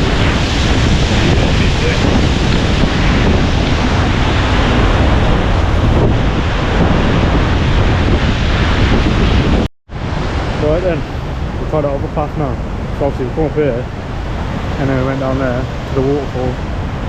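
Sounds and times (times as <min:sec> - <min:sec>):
waterfall rushing: 0:00.0 - 0:17.0
wind buffeting microphone: 0:00.0 - 0:17.0.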